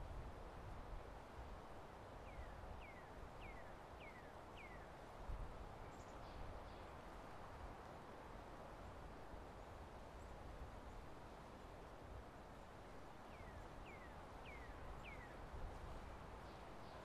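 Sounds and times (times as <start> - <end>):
faint background hiss: 0.0 - 17.0.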